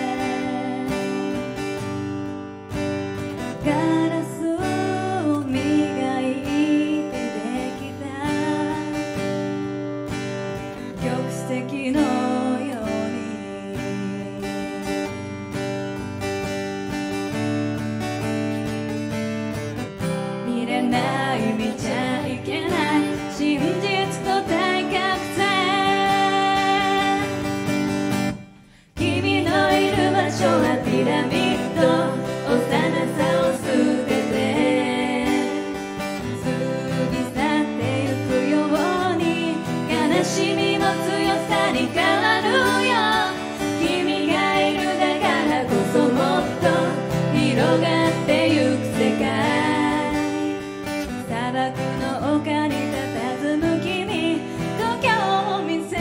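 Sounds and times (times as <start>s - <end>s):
woman singing into microphone: 0.0s - 1.6s, 3.4s - 9.4s, 10.9s - 14.7s, 20.4s - 27.5s, 28.8s - 56.0s
strummed acoustic guitar: 0.0s - 56.0s.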